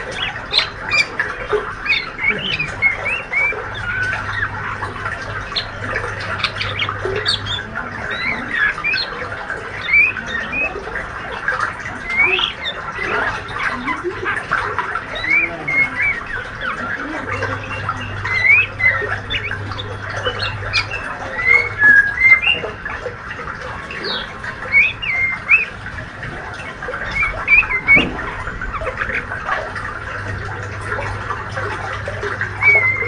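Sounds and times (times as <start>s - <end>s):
young bird chirping and twittering: 0.0s - 33.0s.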